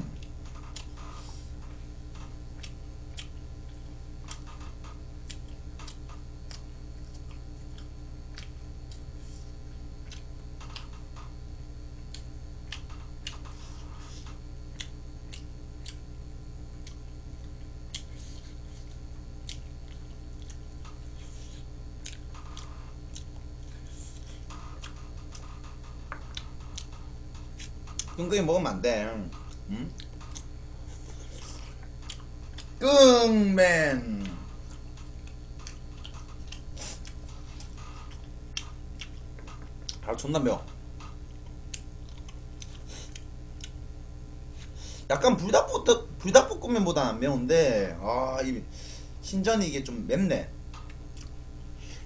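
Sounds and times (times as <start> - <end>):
person chewing food: 0.0 - 11.3, 11.9 - 28.2, 29.3 - 32.8, 34.1 - 40.0, 40.7 - 44.8, 50.8 - 52.0
steady low hum: 0.0 - 52.0.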